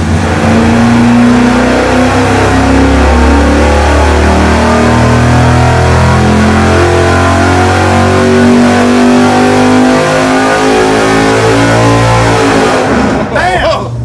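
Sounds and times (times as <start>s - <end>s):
engine revving at full throttle: 0.0s - 13.4s.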